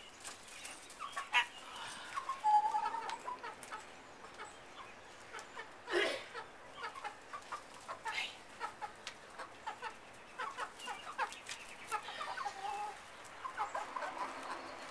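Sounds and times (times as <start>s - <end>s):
hens clucking: 0.2s - 14.9s.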